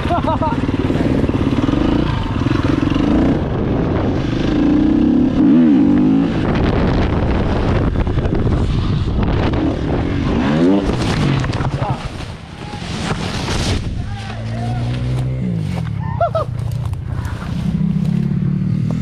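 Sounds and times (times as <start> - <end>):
motorcycle engine revving: 0.0 - 12.4, 13.0 - 19.0.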